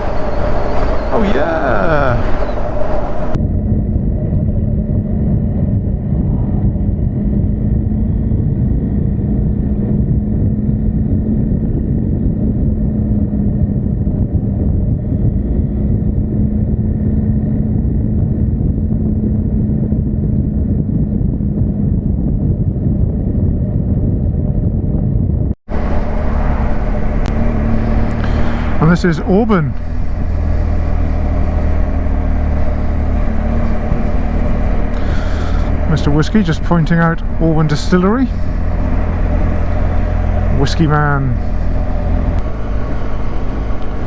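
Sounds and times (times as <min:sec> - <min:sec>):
wind and road noise: 0:00.0 - 0:44.0
motorcycle engine running: 0:03.2 - 0:44.0.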